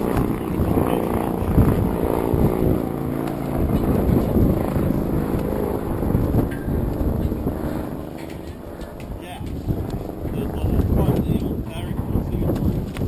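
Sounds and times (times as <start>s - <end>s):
motor droning: 0.0s - 13.0s.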